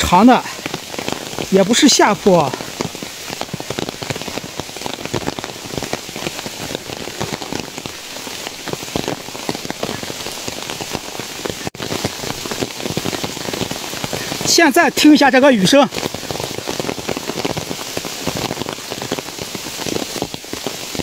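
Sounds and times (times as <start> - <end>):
close raindrop hits: 0.0 - 21.0
heavy rain falling: 0.0 - 21.0.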